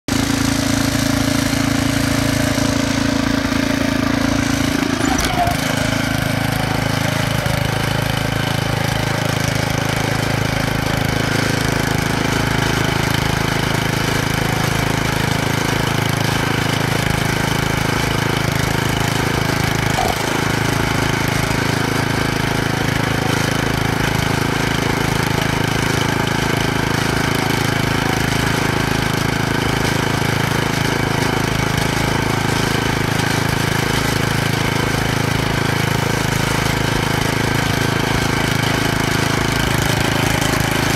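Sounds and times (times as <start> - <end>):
tractor engine running: 0.1 - 40.9.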